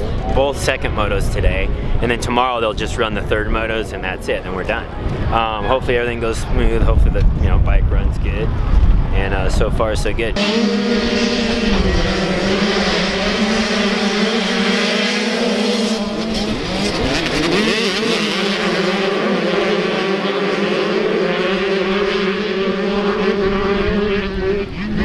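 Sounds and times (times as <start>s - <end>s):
motocross bikes revving and racing: 0.0s - 25.0s.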